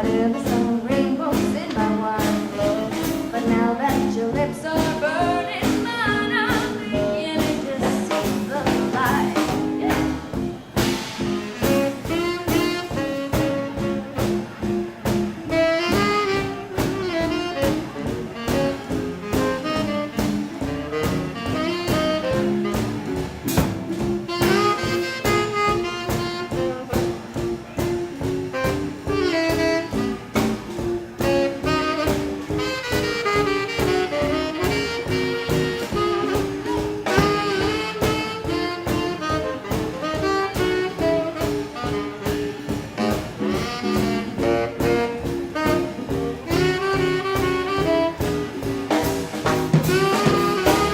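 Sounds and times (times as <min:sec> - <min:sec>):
saxophone: 0:00.0 - 0:50.9
swing band playing: 0:00.0 - 0:50.9.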